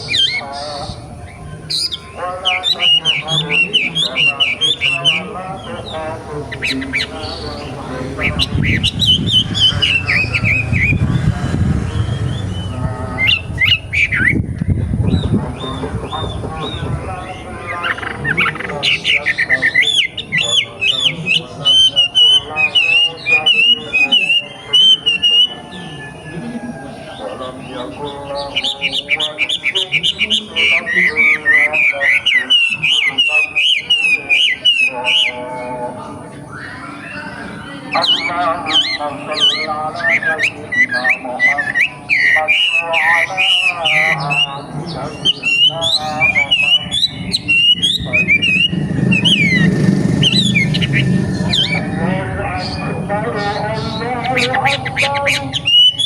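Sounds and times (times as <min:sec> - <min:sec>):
songbird whistling repeated notes: 0:00.0 - 0:35.7, 0:36.5 - 0:52.8, 0:53.4 - 0:56.0.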